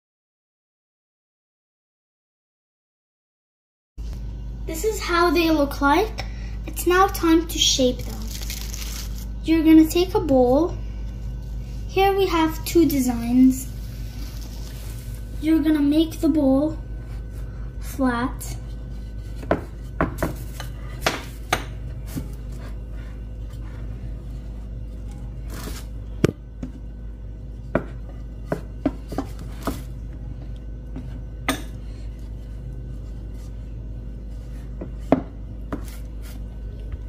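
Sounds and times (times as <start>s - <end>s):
steady low hum: 4.0s - 37.0s.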